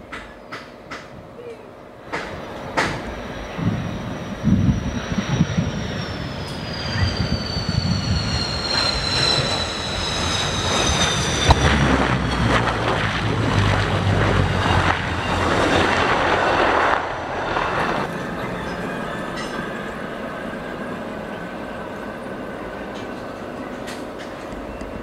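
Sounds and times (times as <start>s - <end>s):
low rumble of engines and rollout: 0.0s - 25.0s
jet engines whining: 1.8s - 25.0s.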